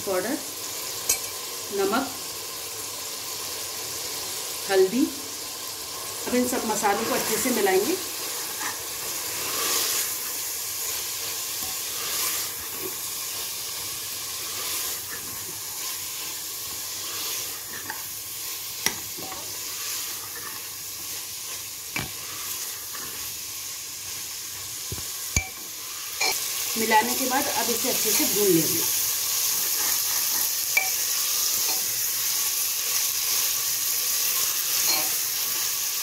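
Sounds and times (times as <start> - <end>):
meat sizzling in oil: 0.0 - 36.0.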